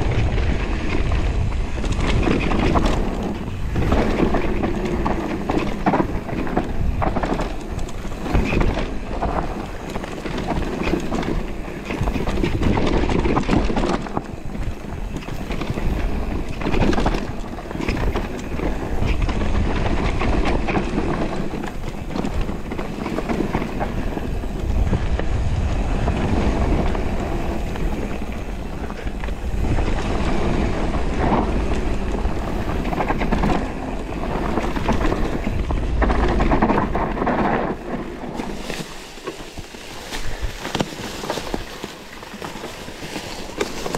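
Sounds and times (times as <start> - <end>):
bike clattering over bumps: 0.0 - 43.9
bike tyres rolling on dirt trail: 0.0 - 43.9
wind on microphone: 0.0 - 43.9.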